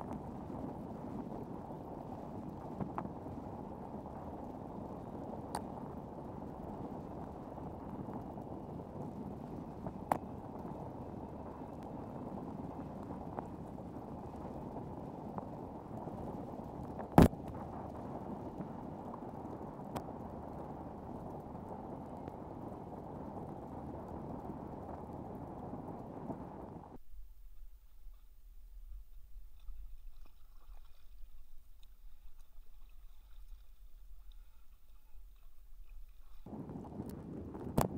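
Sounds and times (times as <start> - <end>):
water washing along kayak hull: 0.0 - 37.9.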